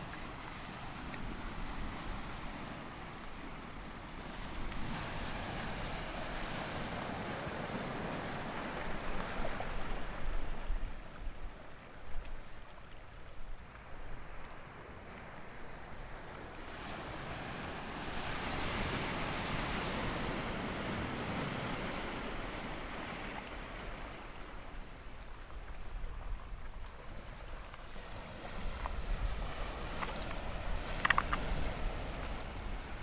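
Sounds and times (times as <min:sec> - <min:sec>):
surf washing over stones: 0:00.0 - 0:11.1, 0:13.6 - 0:33.0.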